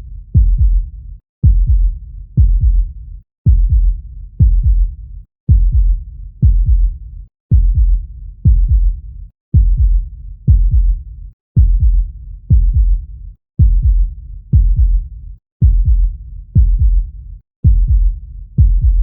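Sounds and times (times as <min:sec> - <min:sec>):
heartbeat thuds: 0:00.3 - 0:02.9, 0:03.5 - 0:11.0, 0:11.6 - 0:13.0, 0:13.6 - 0:19.0.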